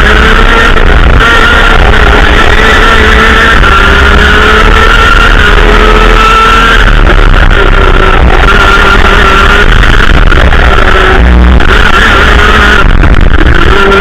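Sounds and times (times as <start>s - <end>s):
kart engine at full throttle: 0.0s - 14.0s.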